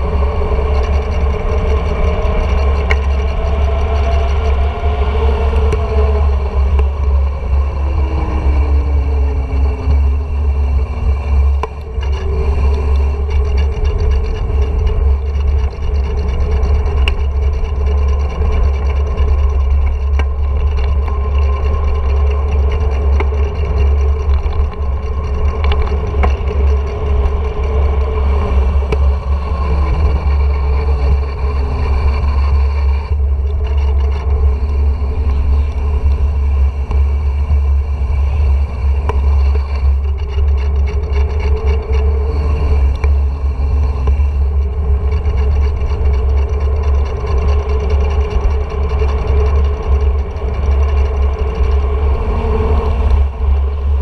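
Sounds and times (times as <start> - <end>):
tyre noise on asphalt: 0.0 - 54.0
wind buffeting microphone: 0.0 - 54.0.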